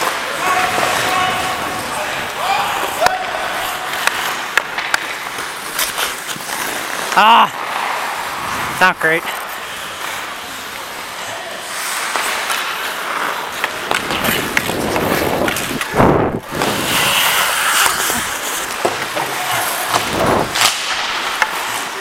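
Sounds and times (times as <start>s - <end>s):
hockey sticks and puck clacking: 0.0s - 22.0s
skates scraping on ice: 0.0s - 22.0s.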